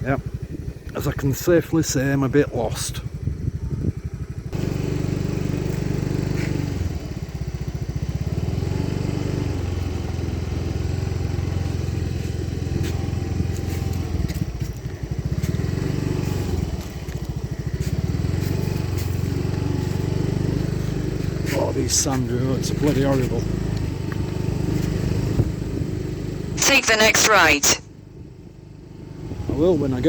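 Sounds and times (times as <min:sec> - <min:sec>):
motor scooter engine running: 0:00.0 - 0:26.6, 0:27.9 - 0:30.0.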